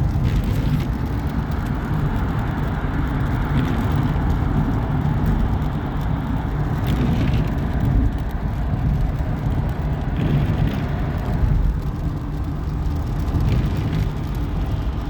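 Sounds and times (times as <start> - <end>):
road vehicle rumbling: 0.0 - 15.0.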